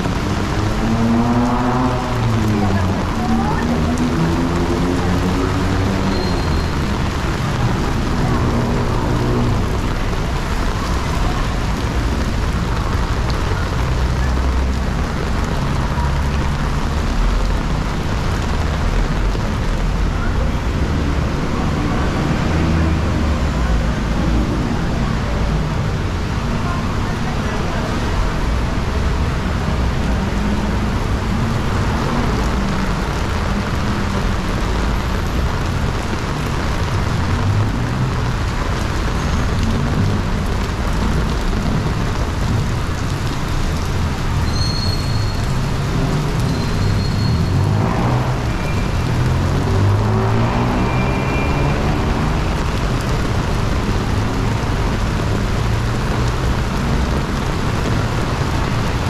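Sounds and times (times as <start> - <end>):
city road traffic: 0.0 - 59.0.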